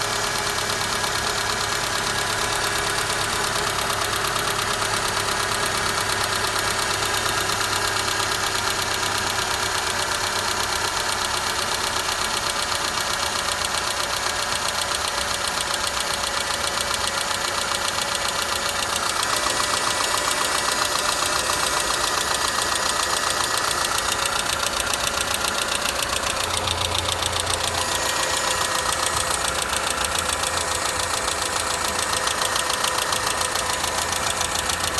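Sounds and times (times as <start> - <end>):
petrol engine running with knock: 0.0 - 34.9.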